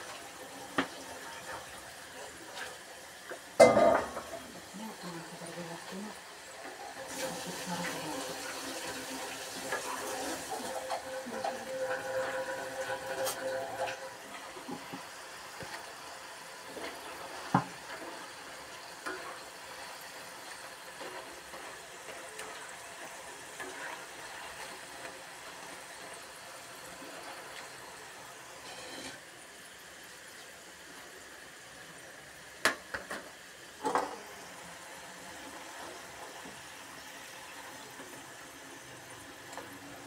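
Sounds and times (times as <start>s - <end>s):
potatoes sizzling in hot oil: 0.0s - 40.0s.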